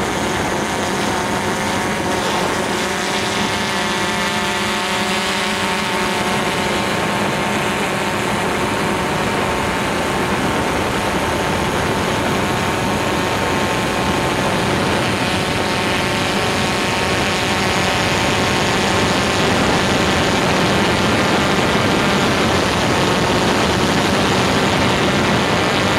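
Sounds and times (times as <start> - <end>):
drone propellers whirring: 0.0 - 25.9.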